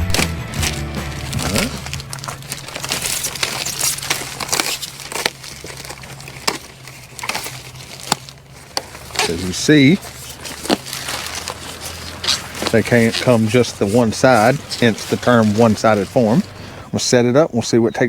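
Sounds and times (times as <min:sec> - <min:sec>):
packaging crinkling and rustling: 0:00.0 - 0:16.8
low hum: 0:00.0 - 0:16.9.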